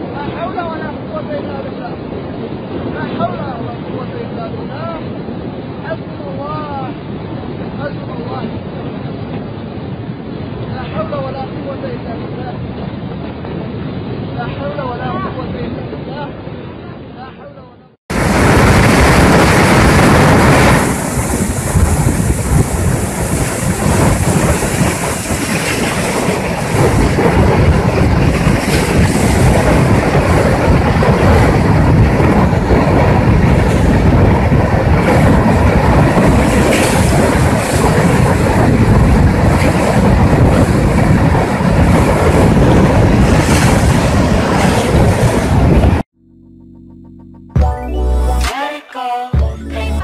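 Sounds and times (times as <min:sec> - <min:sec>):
floodwater roaring: 0:00.0 - 0:17.3, 0:18.1 - 0:46.0.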